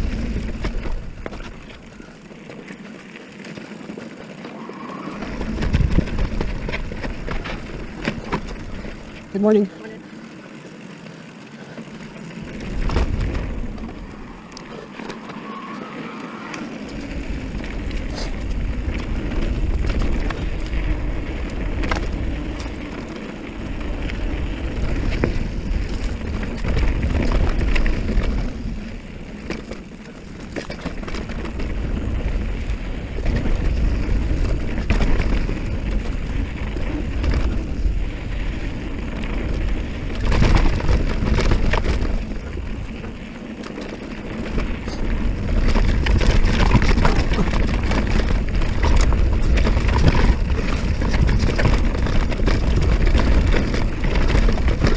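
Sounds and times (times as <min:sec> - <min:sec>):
wind rumbling over microphone: 0:00.0 - 0:02.2, 0:04.5 - 0:09.7, 0:12.1 - 0:54.9
bike rattling over bumps: 0:00.0 - 0:54.9
tyre noise on dirt: 0:00.0 - 0:54.9.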